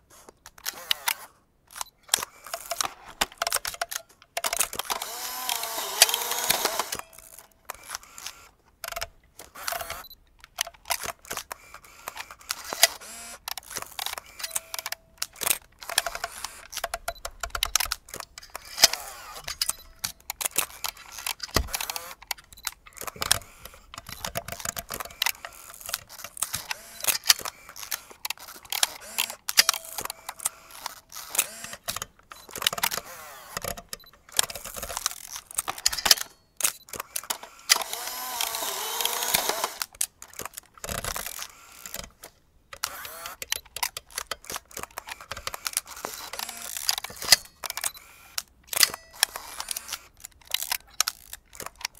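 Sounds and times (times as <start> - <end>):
camera mechanism whirring: 0.1 - 51.9
camera shutter and lever clicks: 0.1 - 51.9.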